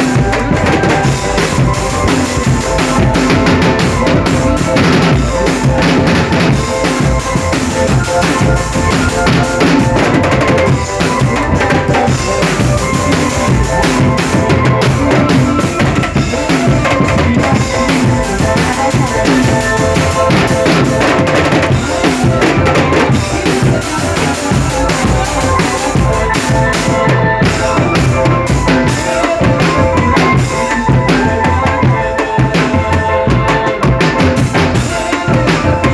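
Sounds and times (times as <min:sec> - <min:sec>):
held melodic tones: 0:00.0 - 0:35.9
marching drums: 0:00.0 - 0:35.9.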